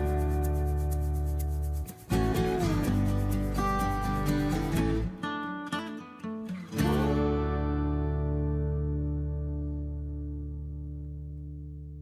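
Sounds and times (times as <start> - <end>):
bass line: 0.0 - 5.2, 6.8 - 12.0
acoustic guitar strumming and plucking: 0.0 - 12.0.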